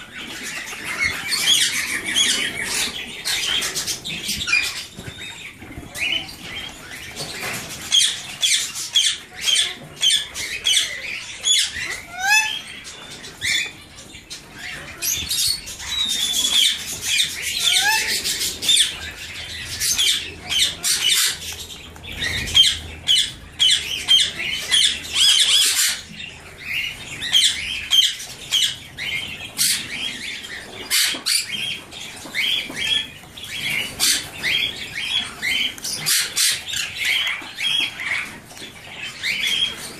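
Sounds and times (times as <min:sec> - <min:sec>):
parakeets squawking: 0:00.0 - 0:39.9.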